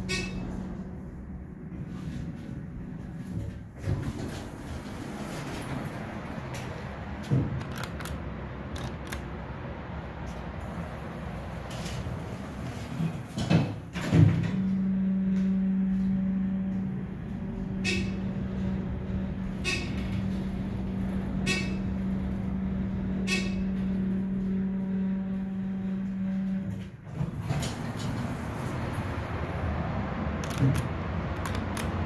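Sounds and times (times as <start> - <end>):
elevator doors closing: 0.0 - 9.5, 10.2 - 32.0
elevator low hum: 0.0 - 32.0.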